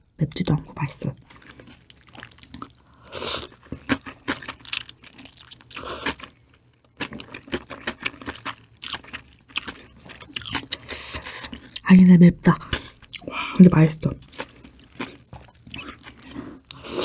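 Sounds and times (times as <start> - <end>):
wet chewing: 1.3 - 11.9, 12.6 - 13.4, 14.2 - 17.0.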